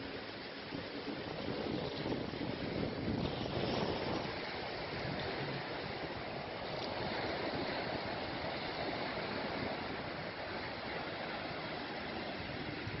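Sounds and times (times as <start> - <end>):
surf washing on a beach: 0.0 - 13.0.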